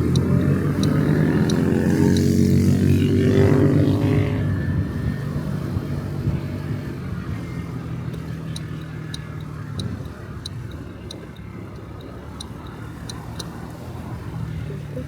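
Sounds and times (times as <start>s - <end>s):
light regular ticking: 0.0s - 3.7s, 5.0s - 15.0s
scooter engine running: 0.0s - 15.0s.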